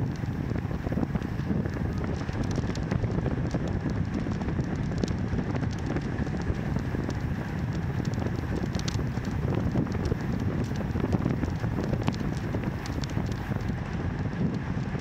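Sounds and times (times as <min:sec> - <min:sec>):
rapid small crackling clicks: 0:00.0 - 0:15.0
wind buffeting microphone: 0:00.0 - 0:15.0.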